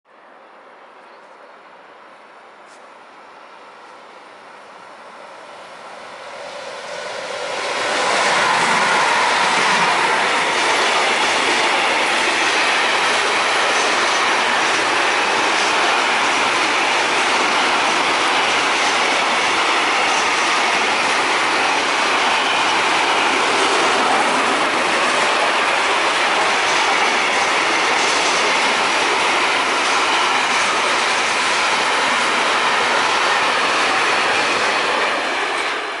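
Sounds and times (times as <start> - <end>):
freight train wheels on rail: 1.2 - 36.0.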